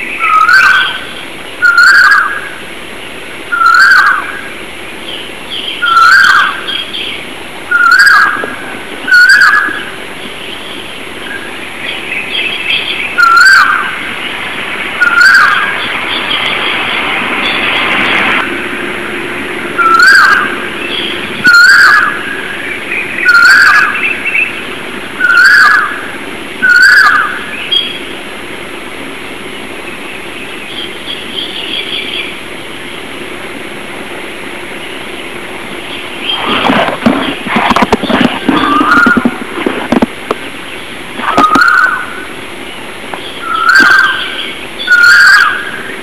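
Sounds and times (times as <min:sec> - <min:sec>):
birds chirping and twittering: 0:00.0 - 0:46.0.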